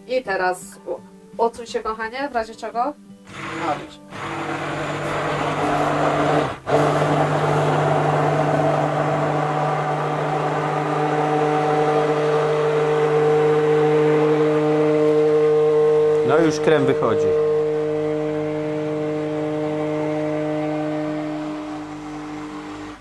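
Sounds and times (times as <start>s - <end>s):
electric blender motor hum: 3.3s - 23.0s.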